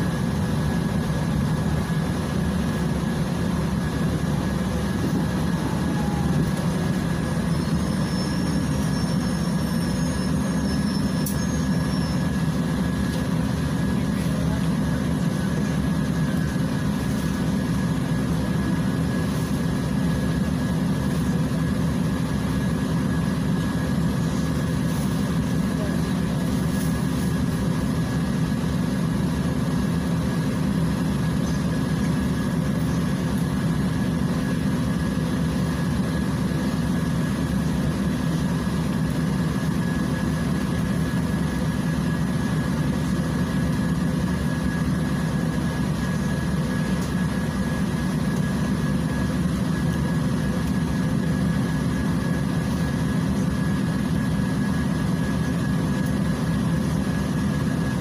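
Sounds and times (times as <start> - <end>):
bus engine idling: 0.0 - 58.0
thin steady whine: 0.0 - 58.0.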